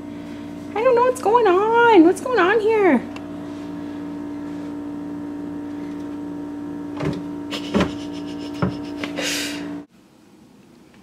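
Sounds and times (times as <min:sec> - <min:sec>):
appliance motor hum: 0:00.0 - 0:09.9.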